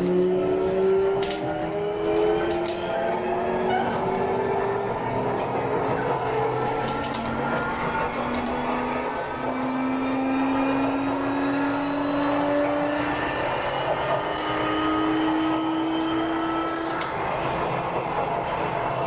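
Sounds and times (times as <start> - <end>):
train motors whining: 0.0 - 18.7
train rumble: 0.0 - 19.0.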